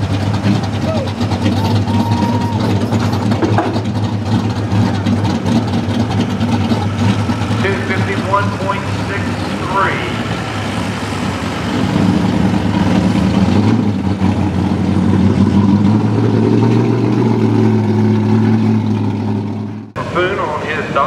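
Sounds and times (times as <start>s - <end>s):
truck engine rumbling at low revs: 0.0s - 21.0s.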